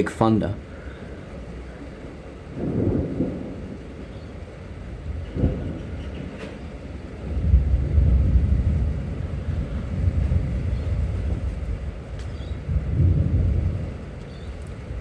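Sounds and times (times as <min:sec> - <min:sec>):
storm hiss: 0:00.0 - 0:15.0
thunder crack and rumble: 0:00.0 - 0:15.0.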